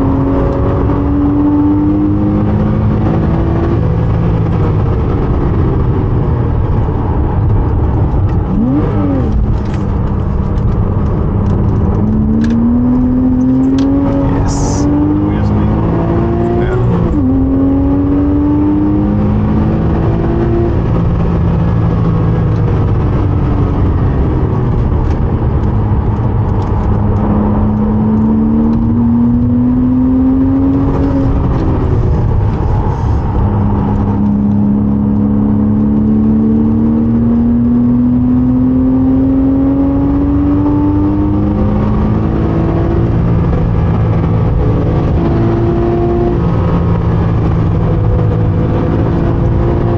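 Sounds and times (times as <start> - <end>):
car engine accelerating through gears: 0.0 - 49.9.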